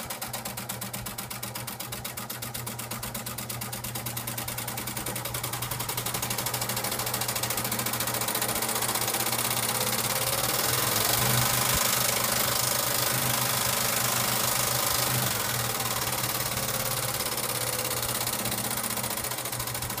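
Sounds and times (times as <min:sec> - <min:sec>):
sewing machine running: 0:00.0 - 0:20.0.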